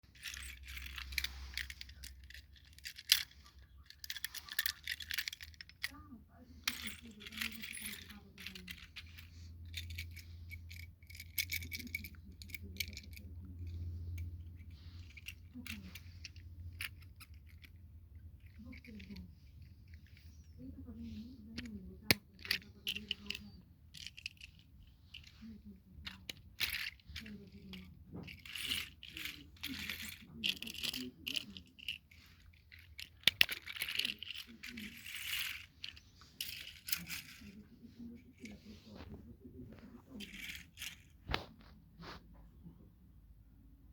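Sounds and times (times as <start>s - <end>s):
small hard toy clicking and rattling: 0.0s - 39.1s, 39.7s - 41.5s.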